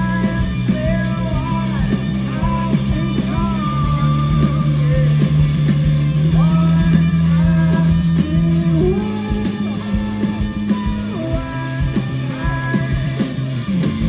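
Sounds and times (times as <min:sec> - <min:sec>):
bass notes: 0:00.0 - 0:14.0
drums: 0:00.0 - 0:14.0.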